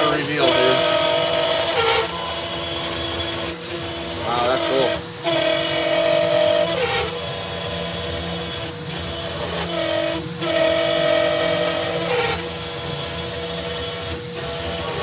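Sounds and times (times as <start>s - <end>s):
cutter screeching: 0.0s - 15.0s
router spindle whining: 0.0s - 15.0s.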